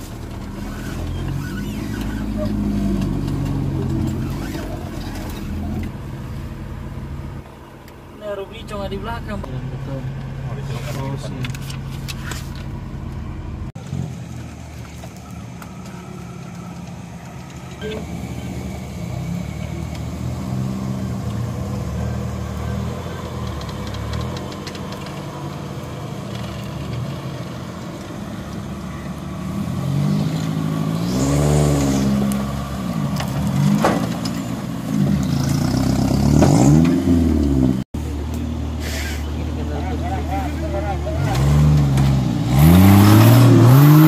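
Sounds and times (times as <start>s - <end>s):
engine running and revving: 0.0s - 7.5s, 9.9s - 44.0s.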